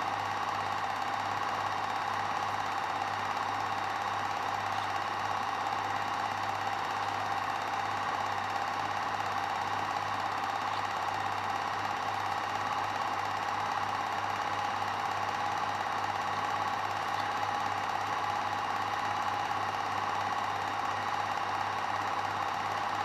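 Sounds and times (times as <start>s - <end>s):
film projector whirring: 0.0s - 23.0s.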